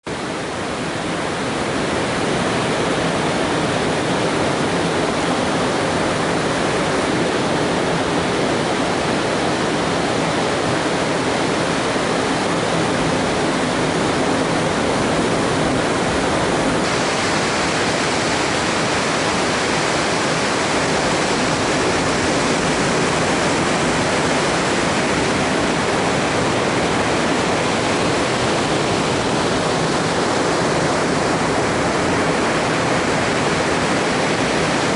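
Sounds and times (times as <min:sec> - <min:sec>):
ocean surf breaking: 0:00.1 - 0:34.9.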